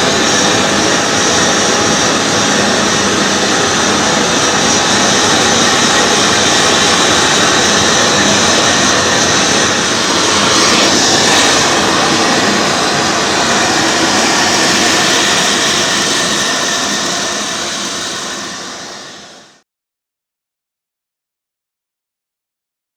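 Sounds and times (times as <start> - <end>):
gas torch flame roaring: 0.0 - 19.6.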